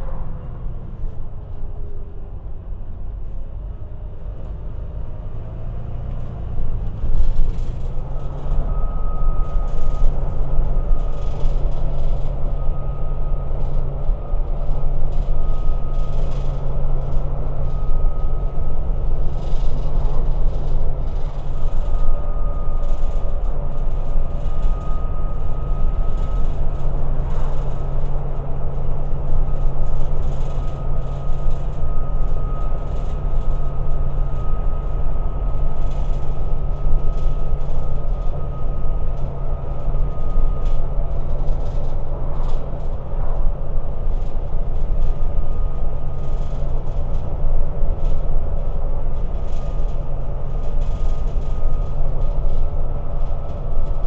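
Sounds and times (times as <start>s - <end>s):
bus engine drone: 0.0s - 54.0s
high whine: 0.0s - 54.0s.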